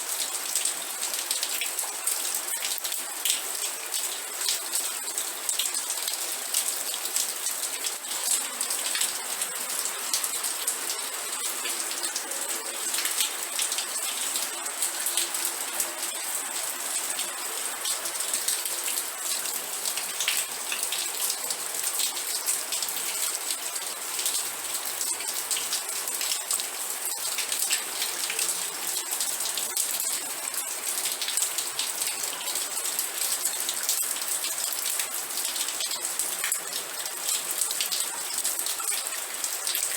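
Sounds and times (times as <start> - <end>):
rain drops on hard surface: 0.0 - 39.9.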